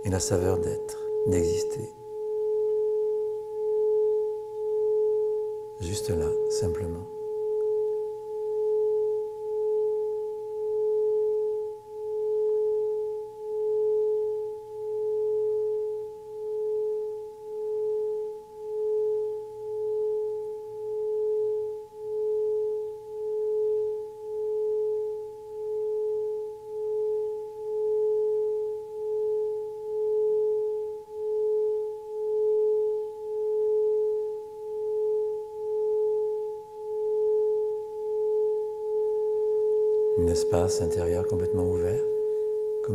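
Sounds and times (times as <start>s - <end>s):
singing bowl ringing tone: 0.0s - 42.9s.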